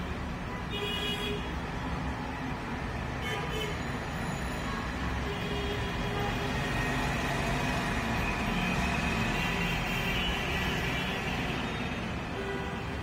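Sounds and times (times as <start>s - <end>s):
roadside traffic rumble: 0.0s - 13.0s.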